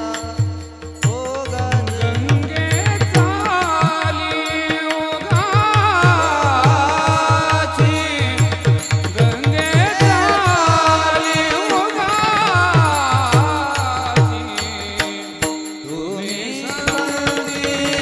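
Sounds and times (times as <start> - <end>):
drum beating: 0.0 - 15.6
men singing in unison: 0.0 - 18.0.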